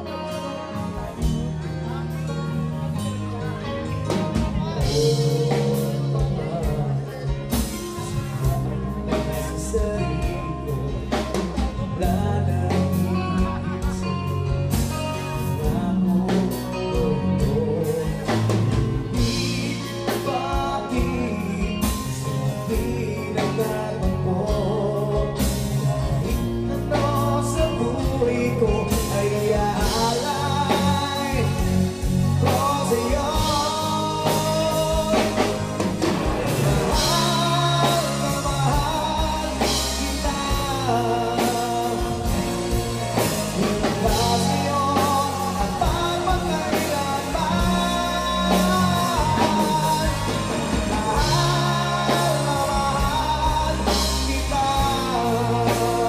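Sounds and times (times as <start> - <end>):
live rock band playing: 0.0 - 56.0
woman singing lead: 2.2 - 56.0.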